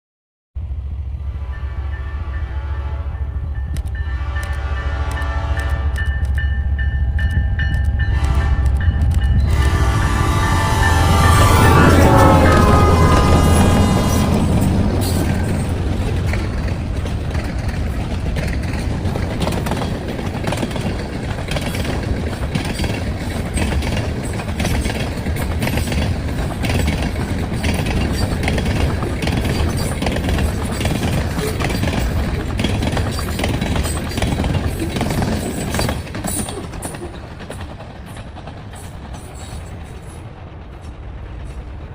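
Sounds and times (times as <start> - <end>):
train engine rumble: 0.6 - 41.9
wheels clacking over rail joints: 3.6 - 41.9.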